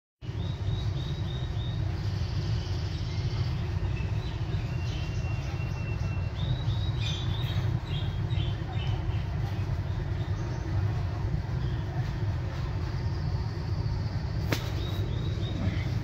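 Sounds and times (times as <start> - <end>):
steady low rumble: 0.2 - 16.0.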